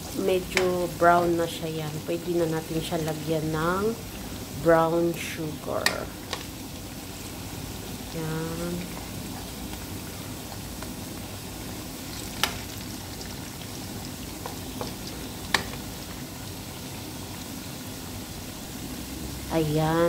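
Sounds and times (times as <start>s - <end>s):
banana slices sizzling in oil: 0.0s - 20.0s.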